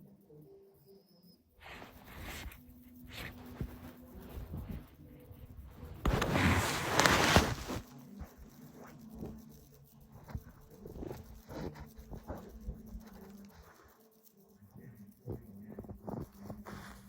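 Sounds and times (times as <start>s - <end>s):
faint clicks and rustles: 1.6s - 17.0s.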